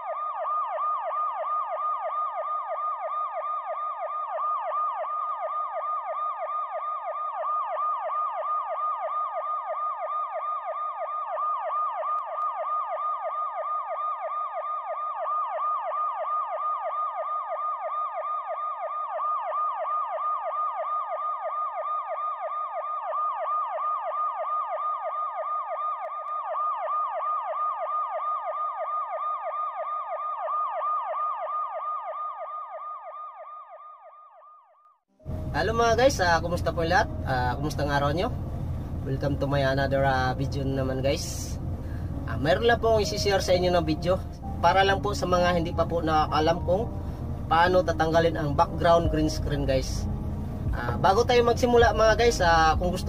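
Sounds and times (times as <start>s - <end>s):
police siren yelping: 0.0s - 53.0s.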